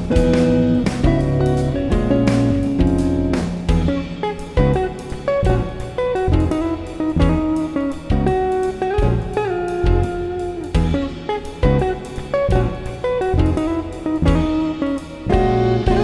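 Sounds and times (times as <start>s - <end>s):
guitar note bending upward: 0.0s - 16.0s
guitar-led instrumental music: 0.0s - 16.0s.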